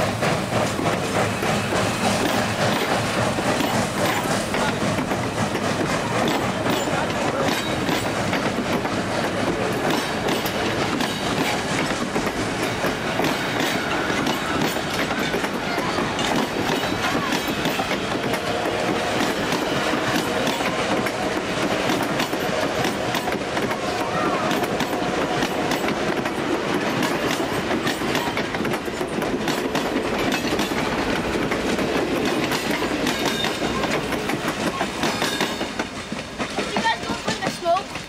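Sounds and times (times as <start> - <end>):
clickety-clack over rail joints: 0.0 - 38.0
train wheels rumbling on rail: 0.0 - 38.0.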